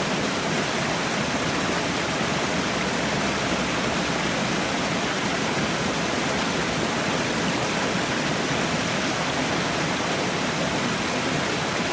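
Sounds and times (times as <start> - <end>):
falling water rushing: 0.0 - 11.9.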